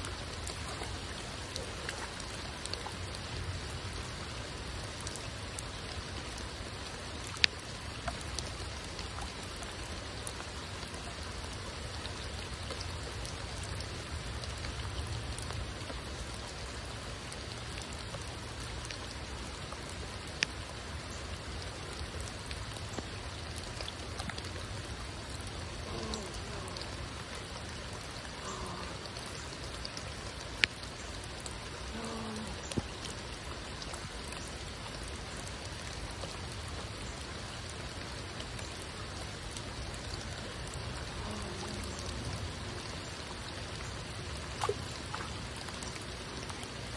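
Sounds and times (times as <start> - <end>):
raindrops ticking close by: 0.0 - 46.9
steady rain falling: 0.0 - 46.9.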